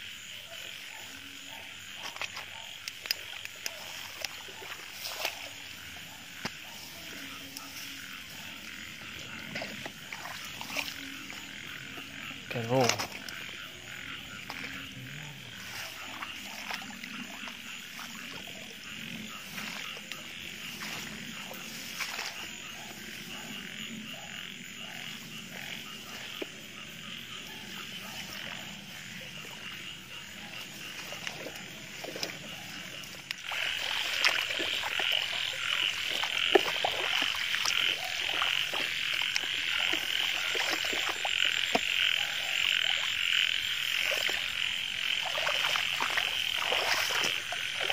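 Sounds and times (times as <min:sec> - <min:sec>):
frogs croaking: 0:00.0 - 0:47.9.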